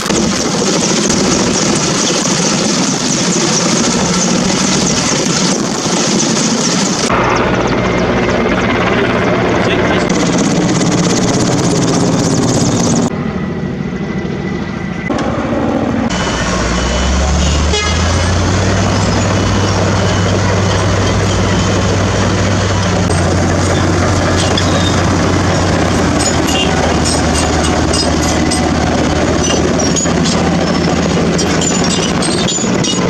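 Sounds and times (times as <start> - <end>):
diesel truck engines droning: 0.0 - 33.0
helicopter overhead: 0.0 - 33.0.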